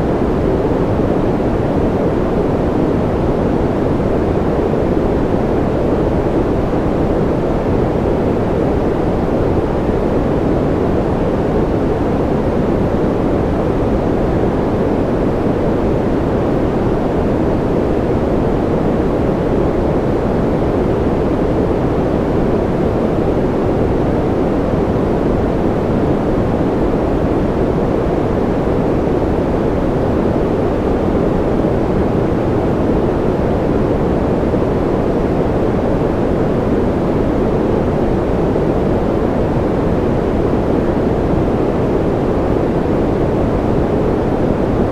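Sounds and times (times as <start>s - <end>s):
white noise hiss: 0.0s - 44.9s.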